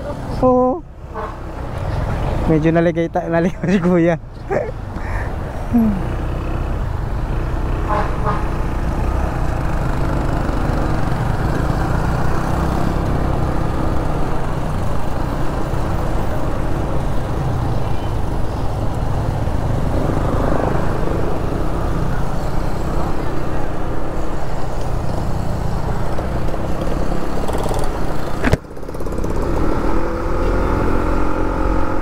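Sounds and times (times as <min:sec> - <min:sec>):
road and wind noise: 0:00.0 - 0:32.0
motorcycle engine drone: 0:05.7 - 0:32.0.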